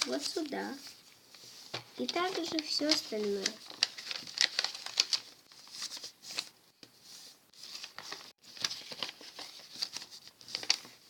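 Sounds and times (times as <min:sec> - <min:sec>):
paper being folded and creased: 0:00.0 - 0:11.0.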